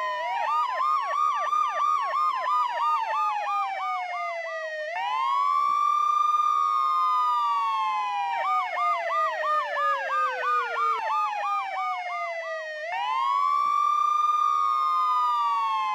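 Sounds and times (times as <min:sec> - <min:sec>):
police siren wail: 0:00.0 - 0:15.9
police siren yelp: 0:00.0 - 0:15.9.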